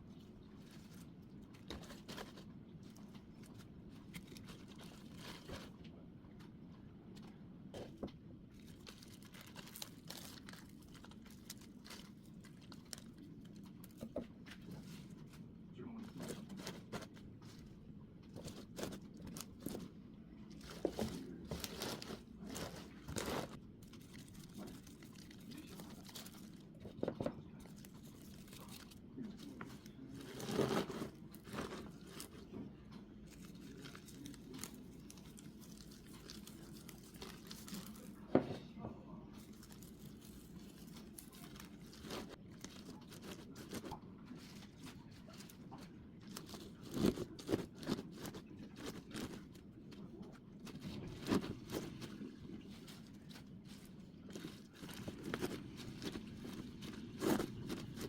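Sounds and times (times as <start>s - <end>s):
animal crunching leafy vegetables: 0.0s - 38.5s, 39.2s - 58.0s.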